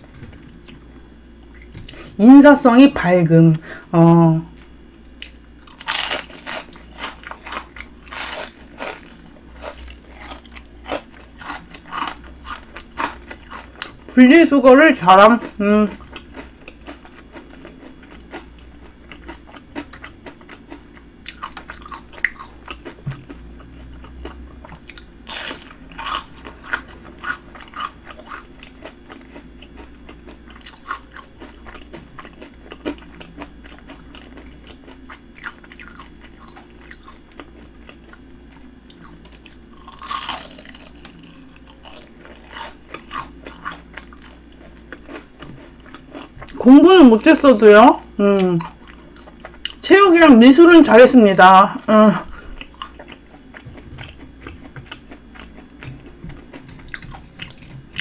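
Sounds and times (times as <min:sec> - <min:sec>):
crunching fried shrimp: 0:05.0 - 0:50.6, 0:51.7 - 0:58.0.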